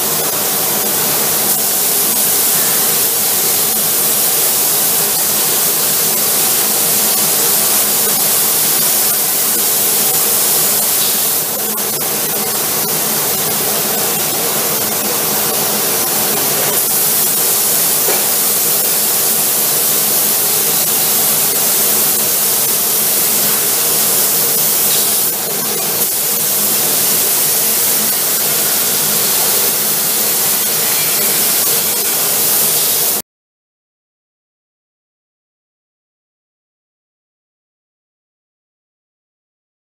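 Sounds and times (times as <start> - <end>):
spray gun hissing: 0.0 - 33.2.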